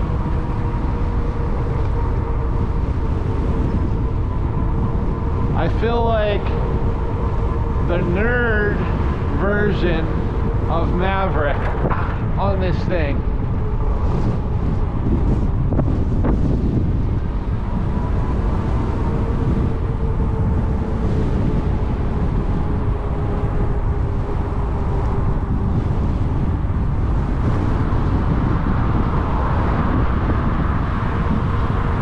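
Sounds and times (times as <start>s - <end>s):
faint steady whine: 0.0s - 32.0s
wind buffeting microphone: 0.0s - 32.0s.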